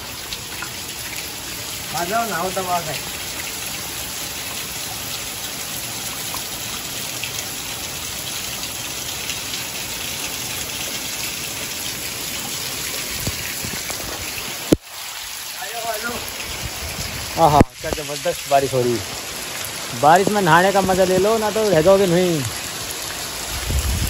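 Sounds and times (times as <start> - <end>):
heavy rain on concrete roof: 0.0 - 24.0.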